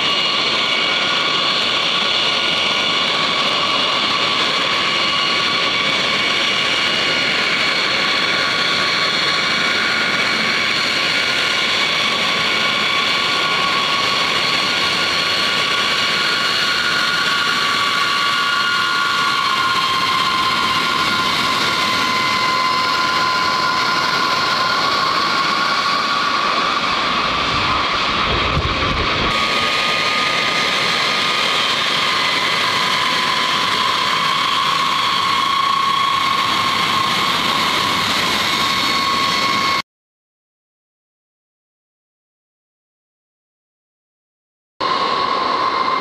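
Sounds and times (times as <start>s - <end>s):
jet engines whining: 0.0s - 39.8s, 44.8s - 46.0s.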